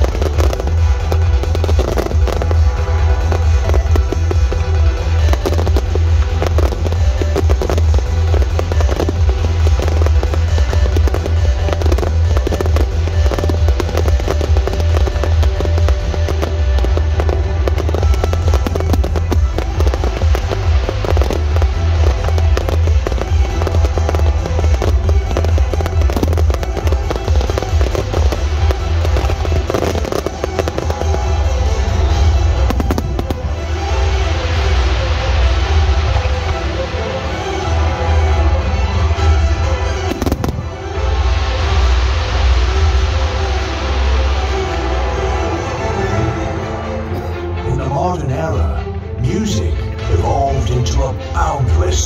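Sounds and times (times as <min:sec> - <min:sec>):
fireworks bursting: 0:00.0 - 0:47.6
music soundtrack: 0:00.0 - 0:52.0.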